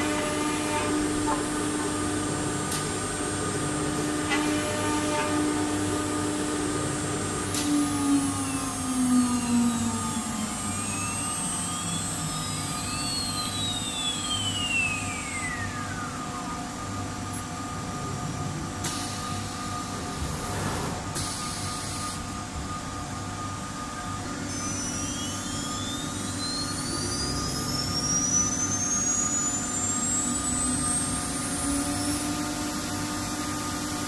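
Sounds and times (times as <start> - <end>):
spindle whine rising in pitch: 0.0 - 33.5
machine hum and whine: 0.0 - 34.0.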